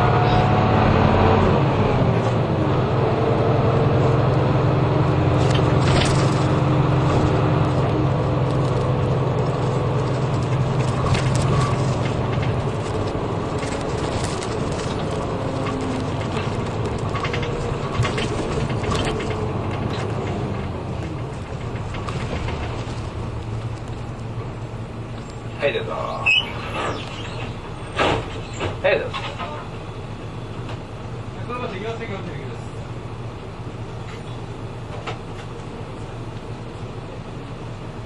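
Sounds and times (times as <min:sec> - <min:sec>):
bus engine humming: 0:00.0 - 0:38.0.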